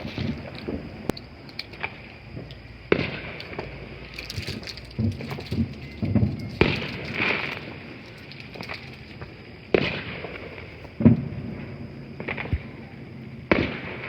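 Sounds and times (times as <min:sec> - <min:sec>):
fireworks bangs and pops: 0:00.0 - 0:01.2, 0:01.8 - 0:14.0.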